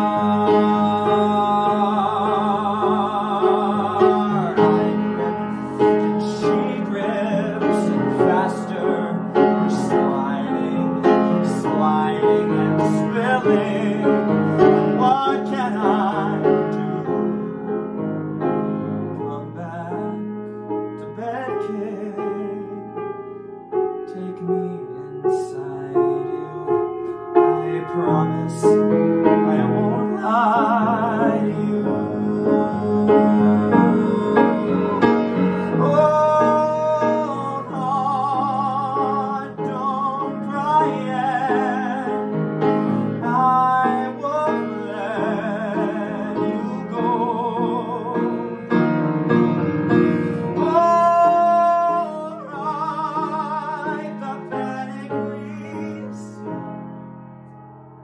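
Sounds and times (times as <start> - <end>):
young man singing with vibrato: 0.0 - 18.0, 18.7 - 23.2, 24.0 - 56.7
grand piano accompaniment: 0.0 - 58.0.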